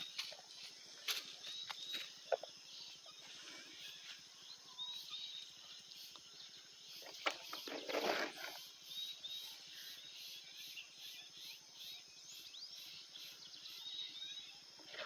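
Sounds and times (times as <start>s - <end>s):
insect hum: 0.0s - 15.0s.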